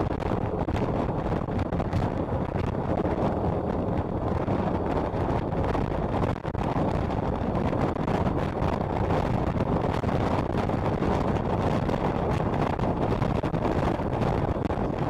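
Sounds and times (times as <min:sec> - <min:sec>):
motorcycle engine and road noise: 0:00.0 - 0:15.0
wind buffeting microphone: 0:00.0 - 0:15.0.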